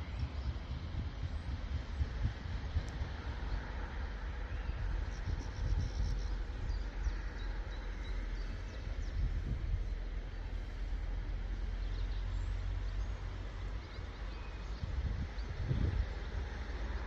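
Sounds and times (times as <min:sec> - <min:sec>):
steady outdoor hiss: 0:00.0 - 0:17.0
wind buffeting microphone: 0:00.0 - 0:17.0.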